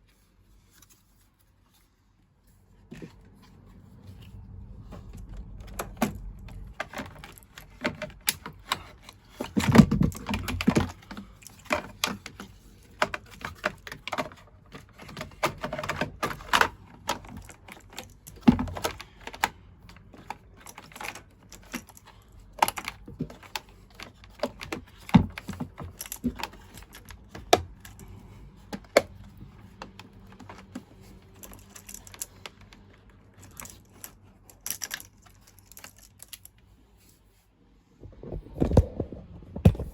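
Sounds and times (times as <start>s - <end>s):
hands handling tools and parts: 0.0s - 37.4s.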